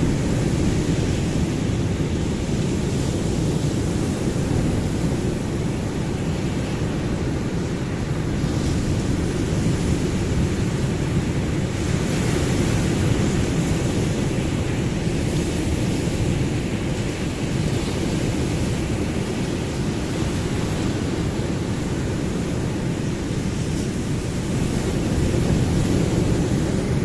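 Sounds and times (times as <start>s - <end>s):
ocean waves washing: 0.0s - 27.0s.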